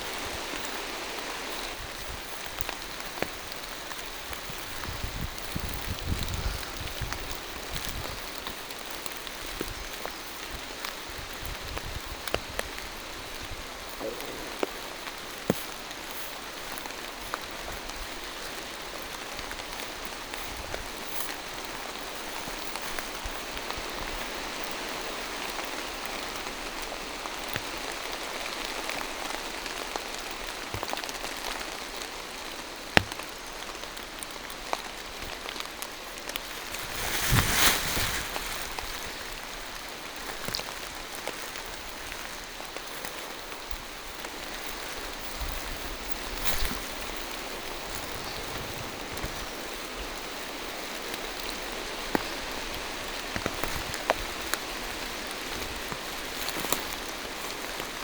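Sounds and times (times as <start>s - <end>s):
rain falling through trees: 0.0s - 58.0s
raindrops striking close by: 0.0s - 58.0s.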